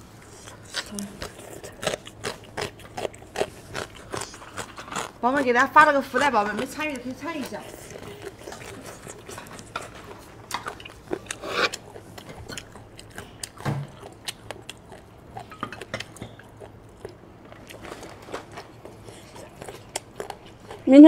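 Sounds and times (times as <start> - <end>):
chewing mouth clicks: 0.2 - 5.5, 6.2 - 18.0, 18.6 - 20.9.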